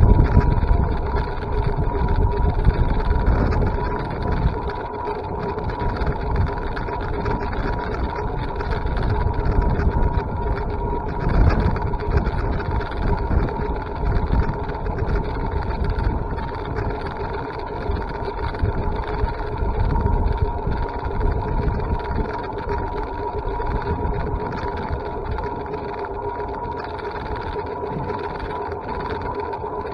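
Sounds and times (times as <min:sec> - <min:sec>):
constant hum: 0:00.0 - 0:29.9
vehicle low rumble: 0:00.0 - 0:29.9.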